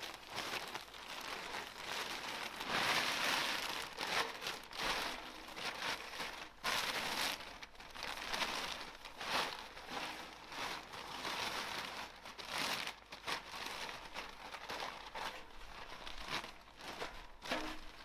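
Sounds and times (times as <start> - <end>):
plastic sheeting crinkling: 0.0 - 18.0.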